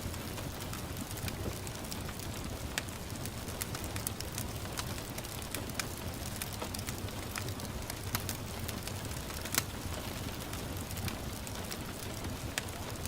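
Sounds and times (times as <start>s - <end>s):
gentle rain hiss: 0.0s - 13.0s
wood fire crackling and popping: 0.0s - 13.0s.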